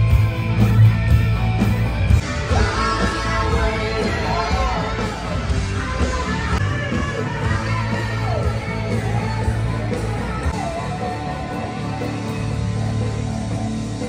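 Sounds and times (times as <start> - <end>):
rock band playing live: 0.0 - 14.0
lead vocal singing: 2.2 - 13.5.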